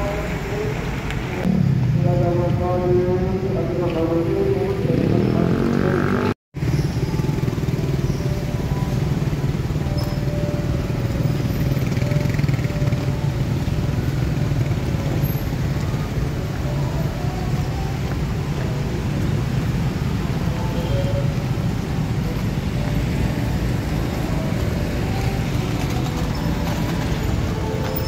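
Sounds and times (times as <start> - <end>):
cars and motorcycles passing: 0.0 - 28.0.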